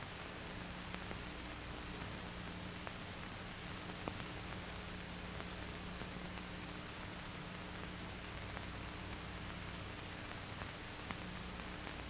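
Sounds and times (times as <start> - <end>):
film soundtrack hiss and hum: 0.0 - 12.0
crackle clicks: 0.1 - 12.0.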